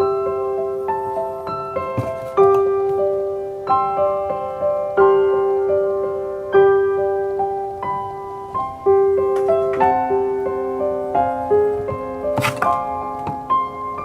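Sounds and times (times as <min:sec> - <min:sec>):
gentle piano tune: 0:00.0 - 0:14.0.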